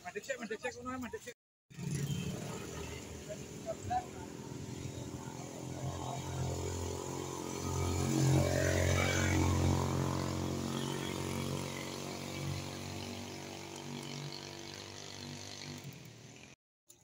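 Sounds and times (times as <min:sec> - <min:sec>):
motor engine droning: 0:01.9 - 0:16.6.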